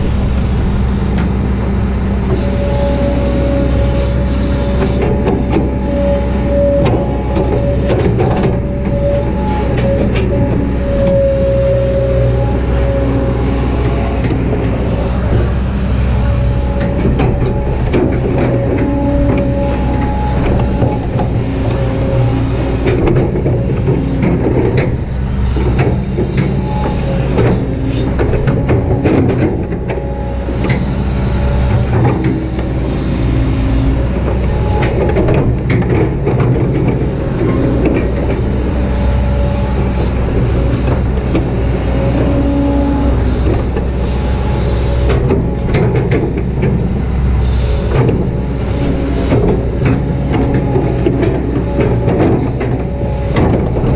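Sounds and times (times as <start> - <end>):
excavator diesel engine running: 0.0 - 53.9
hydraulics whining: 0.0 - 53.9.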